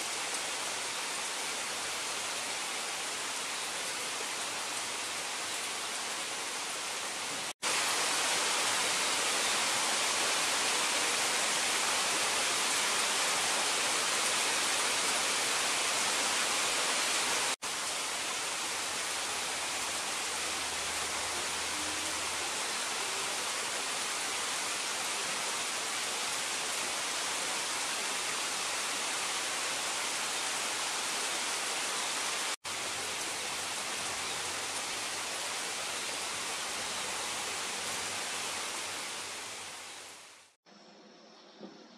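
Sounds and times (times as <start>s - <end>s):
rain falling on foliage: 0.0s - 40.6s.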